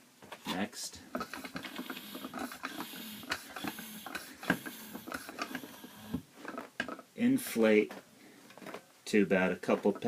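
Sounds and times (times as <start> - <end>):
faint air hiss: 0.0 - 9.8.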